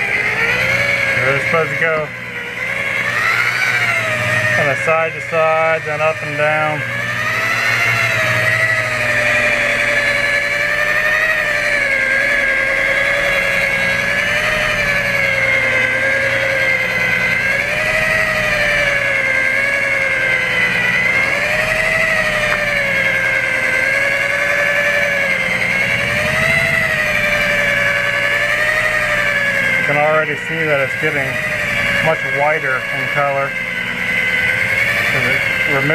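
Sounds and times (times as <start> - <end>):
electric polisher whine: 0.0 - 35.9.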